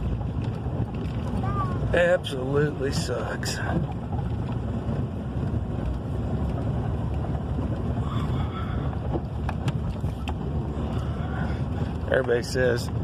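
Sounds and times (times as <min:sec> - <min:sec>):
vehicle engine rumble inside cab: 0:00.0 - 0:13.0.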